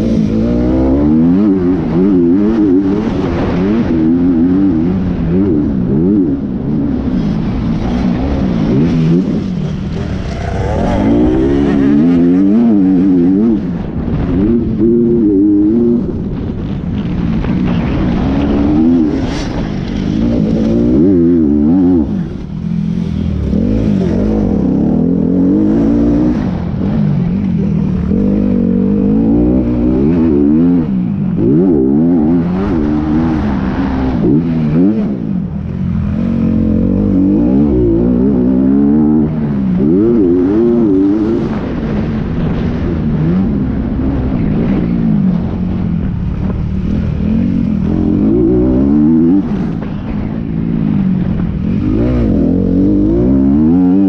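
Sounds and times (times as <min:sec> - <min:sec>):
motorcycle engine revving: 0:00.0 - 0:54.0
steady rush of noise: 0:00.0 - 0:54.0.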